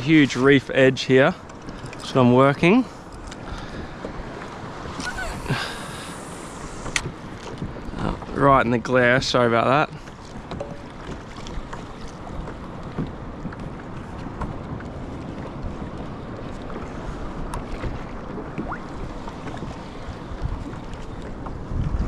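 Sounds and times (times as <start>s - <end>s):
water lapping against hull: 0.0s - 22.0s
wind buffeting microphone: 1.8s - 22.0s.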